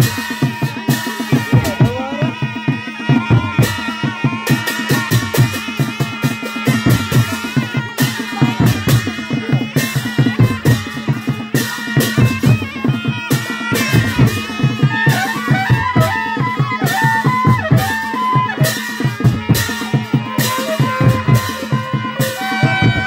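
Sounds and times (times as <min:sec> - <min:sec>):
clarinets and trumpet melody: 0:00.0 - 0:23.0
drums and percussion: 0:00.0 - 0:23.0.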